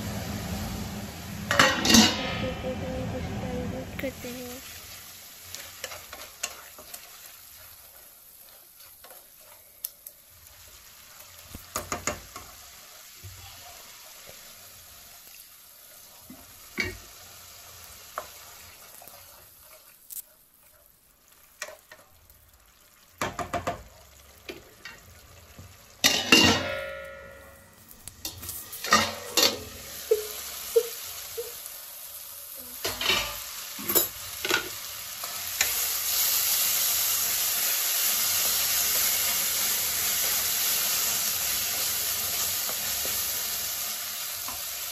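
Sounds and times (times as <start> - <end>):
food sizzling in a pan: 0.0 - 44.9.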